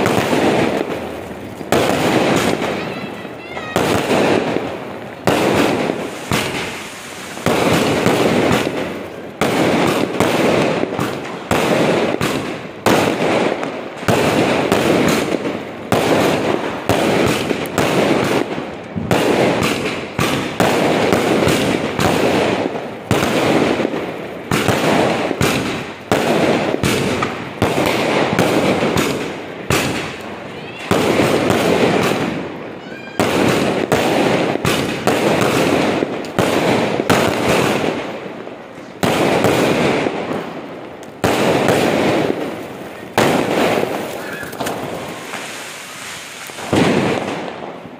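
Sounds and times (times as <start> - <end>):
fireworks bursting with bangs: 0.0 - 47.9
fireworks crackle: 0.0 - 47.9.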